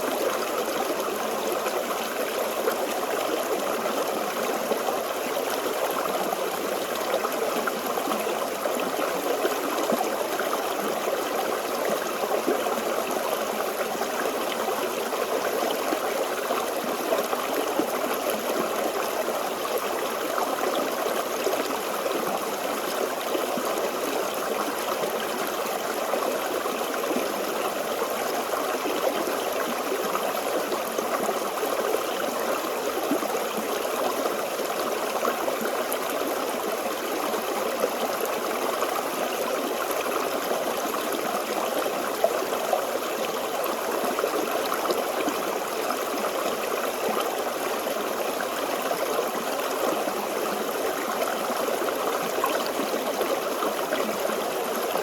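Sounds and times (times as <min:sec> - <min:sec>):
stream babbling over rocks: 0:00.0 - 0:55.0.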